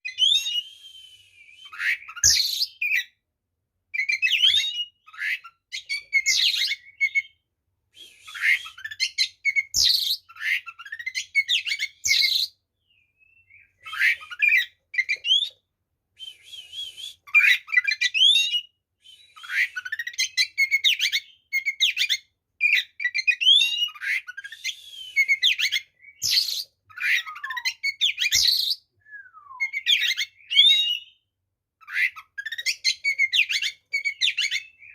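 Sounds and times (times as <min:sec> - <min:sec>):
songbird whistles and trills: 0:00.0 - 0:03.2, 0:03.9 - 0:34.9.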